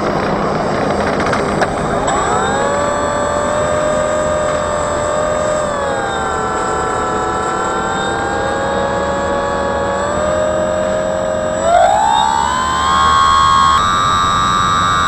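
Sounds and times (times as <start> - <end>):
drone motor and propeller whining: 0.0 - 15.0.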